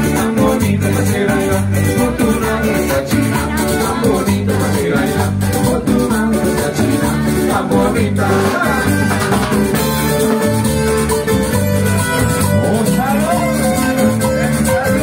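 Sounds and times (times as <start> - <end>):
drums: 0.0 - 15.0
electric bass: 0.0 - 15.0
strummed acoustic guitars: 0.0 - 15.0.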